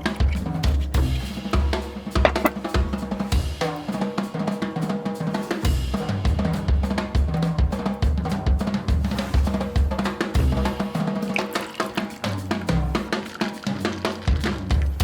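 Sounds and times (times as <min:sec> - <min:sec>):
band music with drum beat: 0:00.0 - 0:15.0.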